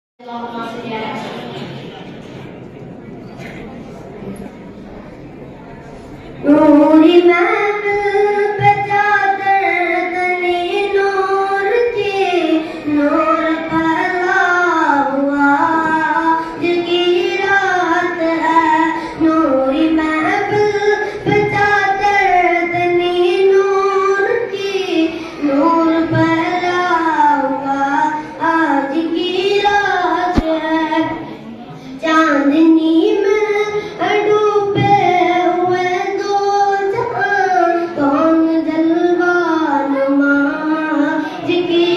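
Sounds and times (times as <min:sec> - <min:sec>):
boy singing into a microphone: 0:06.4 - 0:41.9.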